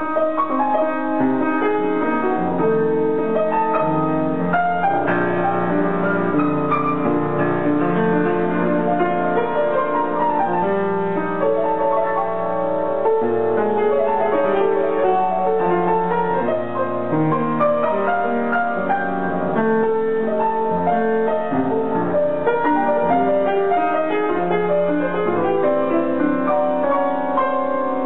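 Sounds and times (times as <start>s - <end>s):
grand piano playing: 0.0s - 28.0s.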